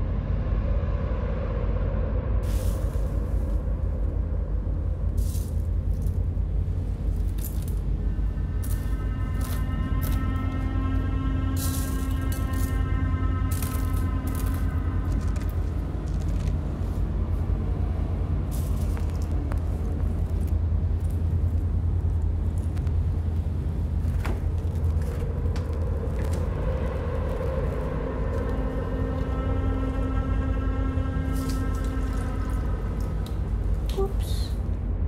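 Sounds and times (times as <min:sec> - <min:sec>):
deep rumbling drone: 0:00.0 - 0:35.0
eerie music score: 0:00.0 - 0:35.0.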